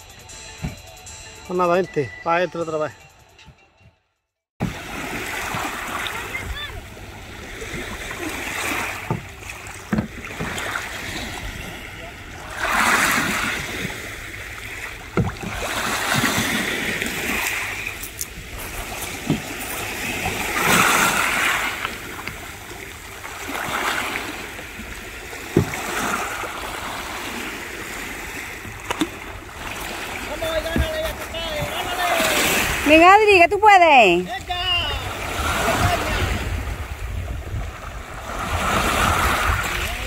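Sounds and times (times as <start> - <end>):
sea water washing and splashing: 4.6 - 40.0.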